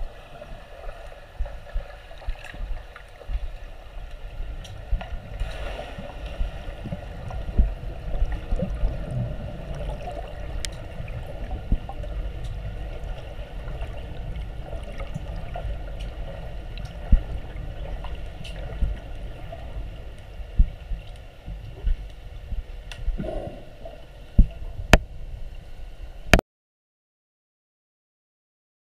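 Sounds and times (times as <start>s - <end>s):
faint steady hum: 0.0s - 26.4s
underwater low rumble: 0.0s - 26.4s.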